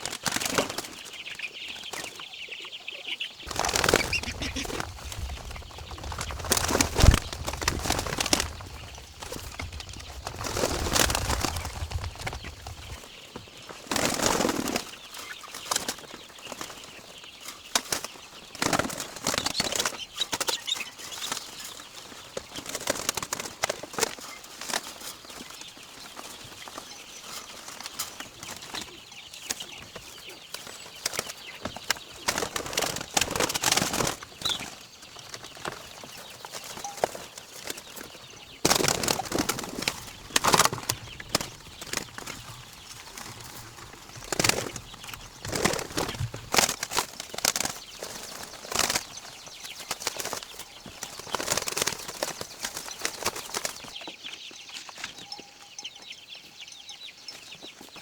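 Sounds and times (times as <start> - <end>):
pigeons flapping wings: 0.0 - 1.0, 3.5 - 16.9, 17.7 - 26.8, 30.6 - 54.0.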